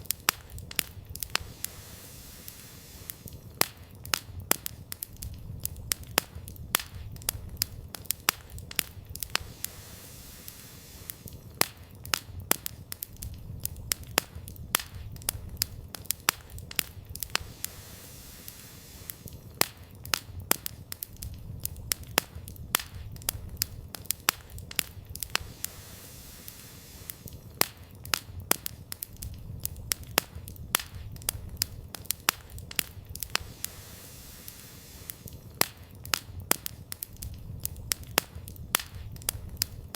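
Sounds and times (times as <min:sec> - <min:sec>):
campfire crackling: 0:00.0 - 0:39.9
fire snaps and pops: 0:00.0 - 0:39.9
low fire rumble: 0:00.0 - 0:39.9.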